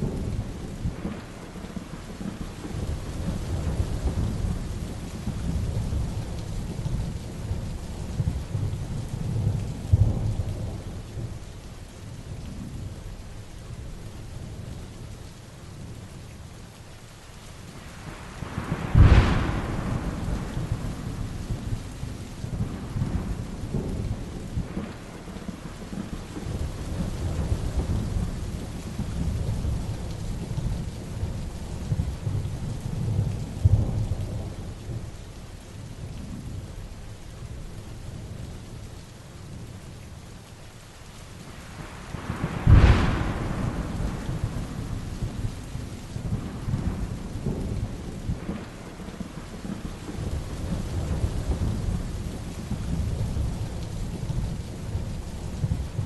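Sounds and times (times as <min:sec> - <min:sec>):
thunderclap with low rumble: 0:00.0 - 0:15.2, 0:17.8 - 0:40.0, 0:41.5 - 0:56.0
heavy rain falling: 0:00.0 - 0:56.0.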